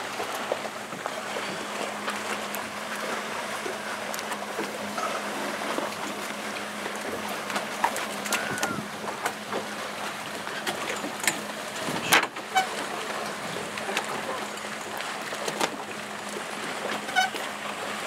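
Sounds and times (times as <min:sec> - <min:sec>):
sharp knocks and splashes: 0:00.0 - 0:18.0
water lapping against boat: 0:00.0 - 0:18.0.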